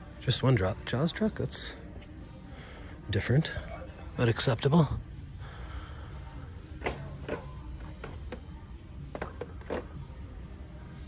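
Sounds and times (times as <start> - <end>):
store background hum: 0.0 - 11.0.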